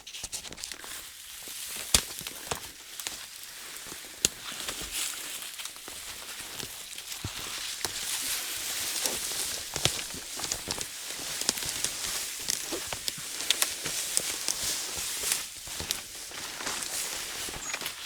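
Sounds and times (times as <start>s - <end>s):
footsteps on forest floor: 1.6s - 18.0s
twigs snapping and crackling: 1.6s - 18.0s.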